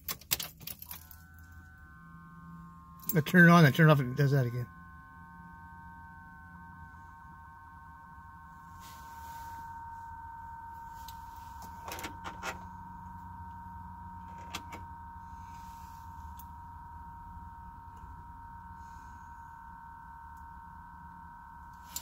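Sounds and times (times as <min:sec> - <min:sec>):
high multi-tone whine: 0:00.0 - 0:22.0.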